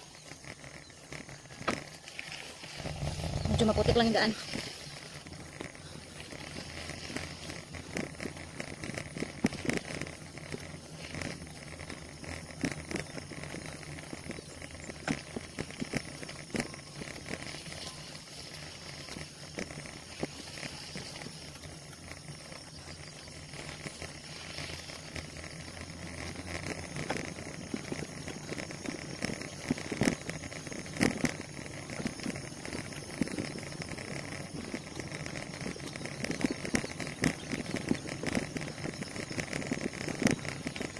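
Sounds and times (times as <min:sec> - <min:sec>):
bicycle clicks and rattles: 0:00.0 - 0:40.9
bicycle tyre and wind noise: 0:00.0 - 0:40.9.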